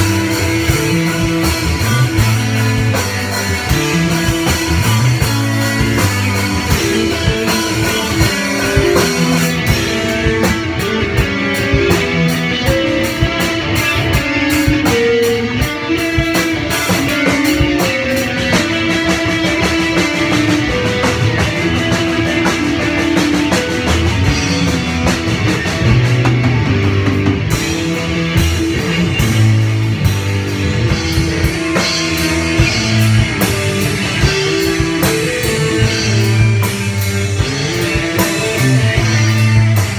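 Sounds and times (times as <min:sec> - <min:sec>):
drum kit with cymbal strokes: 0:00.0 - 0:39.9
electric guitars: 0:00.0 - 0:39.9
rock band playing: 0:00.0 - 0:39.9.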